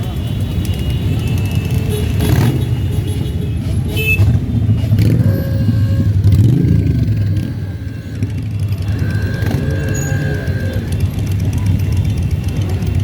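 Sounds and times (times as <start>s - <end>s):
motorcycle engines passing: 0.0s - 13.0s
motorcycle engine revving: 1.2s - 3.0s, 3.6s - 13.0s.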